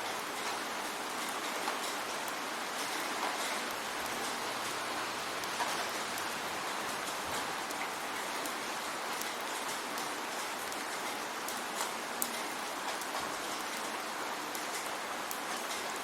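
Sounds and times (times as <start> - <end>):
rain falling on a surface: 0.0 - 16.0.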